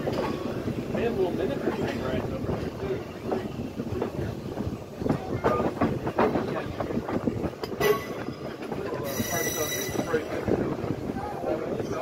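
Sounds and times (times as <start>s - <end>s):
steel wheels clattering over rail joints: 0.0s - 12.0s.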